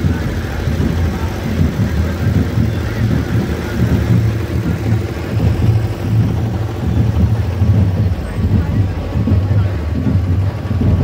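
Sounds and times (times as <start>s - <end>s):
crowd voices: 0.0s - 11.0s
low engine rumble: 0.0s - 11.0s.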